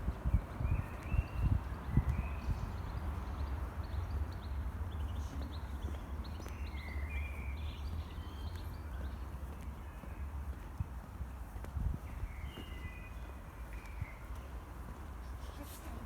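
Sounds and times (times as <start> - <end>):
small birds chirping: 0.3 - 10.5, 12.0 - 16.0.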